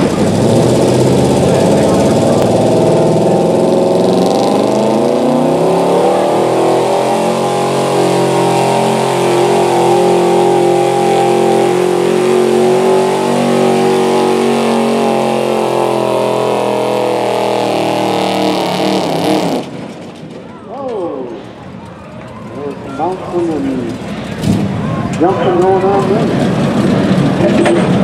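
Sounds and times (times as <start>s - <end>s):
truck engine at high revs: 0.0s - 20.2s, 23.4s - 28.0s.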